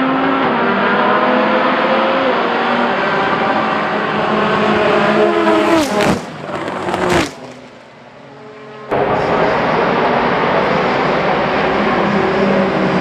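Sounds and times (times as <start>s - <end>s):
racing cars passing at speed: 0.0s - 13.0s.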